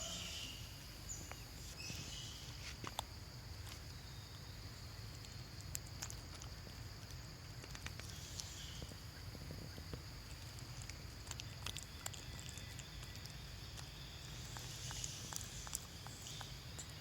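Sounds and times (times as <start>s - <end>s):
constant high hum: 0.0s - 17.0s.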